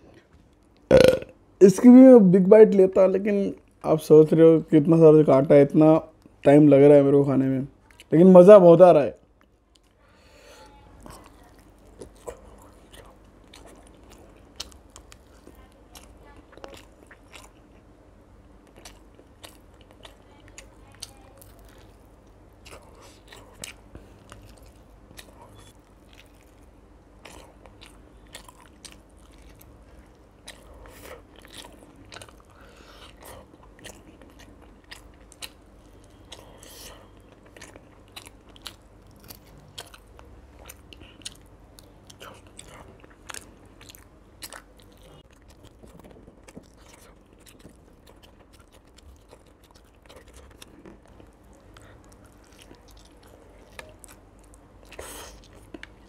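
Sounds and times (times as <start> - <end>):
person chewing crunchy fried fish: 9.2 - 56.0.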